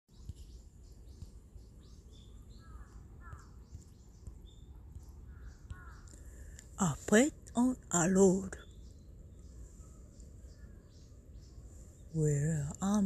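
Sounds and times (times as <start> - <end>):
birds chirping and whistling: 0.1 - 7.2, 8.3 - 13.0.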